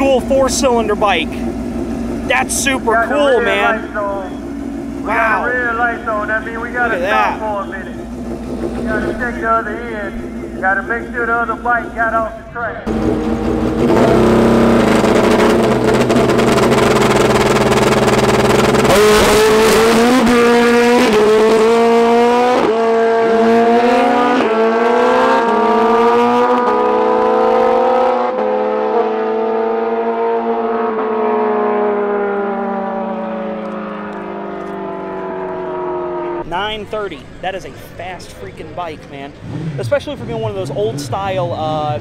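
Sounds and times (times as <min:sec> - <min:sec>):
motorcycle engine revving and accelerating: 0:00.0 - 0:12.0, 0:12.9 - 0:36.5, 0:39.2 - 0:42.0.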